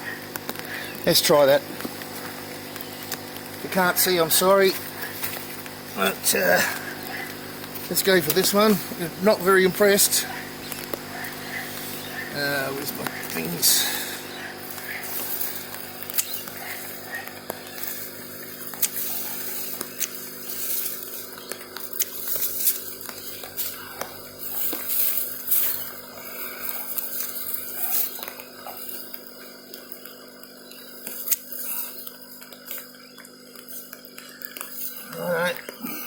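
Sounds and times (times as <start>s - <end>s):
drizzle drops ticking on plastic: 0.0s - 36.0s.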